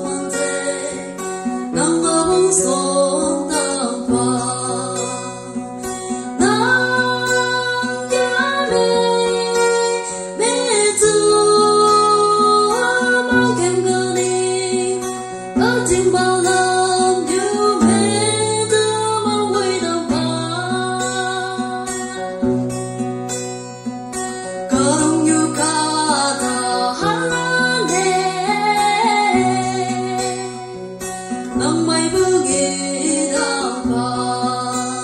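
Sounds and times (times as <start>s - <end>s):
instrumental accompaniment with bass: 0.0s - 35.0s
woman singing into microphone: 0.0s - 35.0s.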